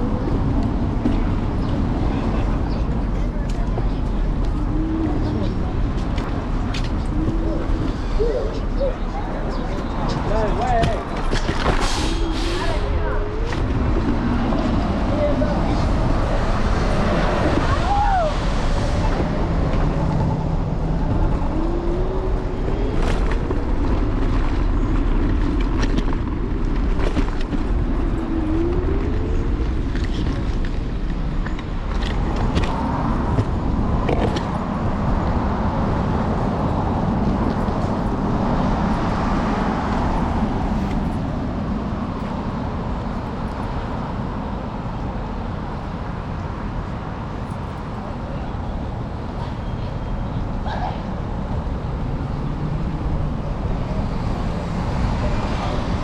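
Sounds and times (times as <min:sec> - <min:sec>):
cars passing: 0:00.0 - 0:56.0
wind and road rumble: 0:00.0 - 0:56.0.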